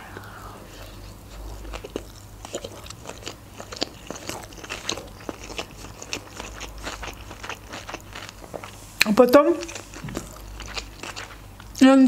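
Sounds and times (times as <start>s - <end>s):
chewing moist crunches: 0.0s - 11.9s.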